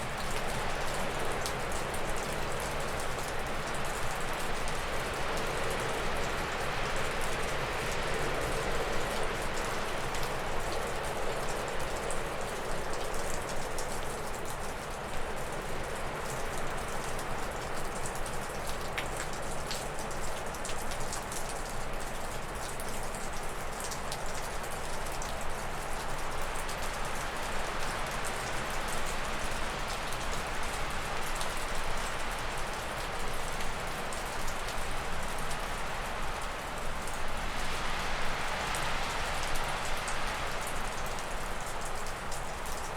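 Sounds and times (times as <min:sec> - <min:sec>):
water dripping off a roof: 0:00.0 - 0:42.9.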